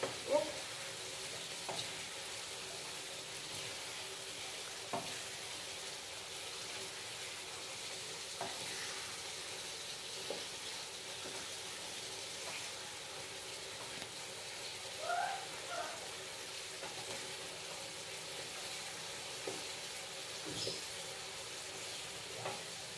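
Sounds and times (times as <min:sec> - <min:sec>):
food sizzling in a frying pan: 0:00.0 - 0:22.9.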